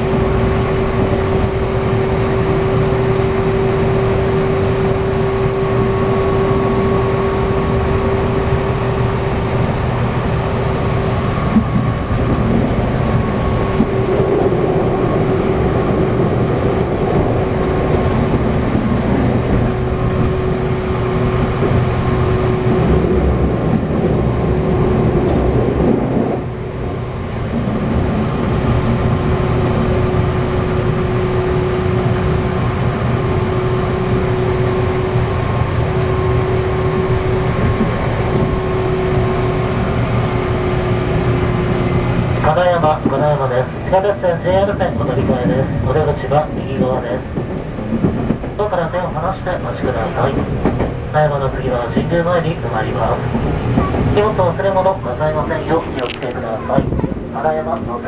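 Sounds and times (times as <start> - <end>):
rail and wheel noise: 0.0 - 58.0.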